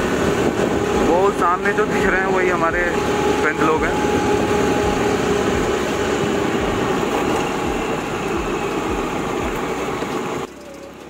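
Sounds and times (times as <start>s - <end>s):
wind rushing over microphone: 0.0s - 10.4s
scooter engine: 0.0s - 11.0s.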